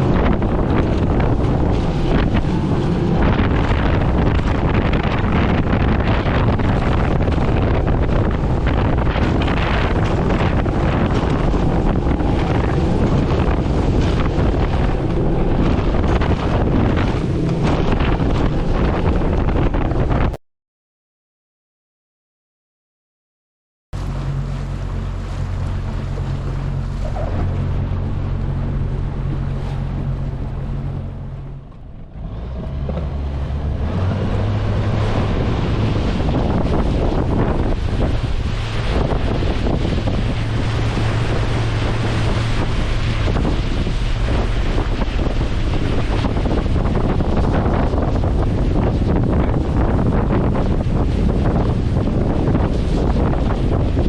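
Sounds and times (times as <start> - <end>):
boat motor humming: 0.0 - 20.4, 24.0 - 54.0
wind buffeting microphone: 0.0 - 20.4, 24.0 - 54.0.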